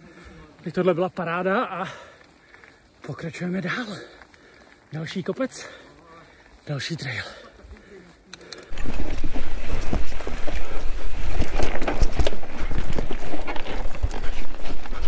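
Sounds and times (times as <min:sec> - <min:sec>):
bike tyres rumbling over dirt: 0:00.0 - 0:15.0
bike chain and frame rattling: 0:01.2 - 0:15.0.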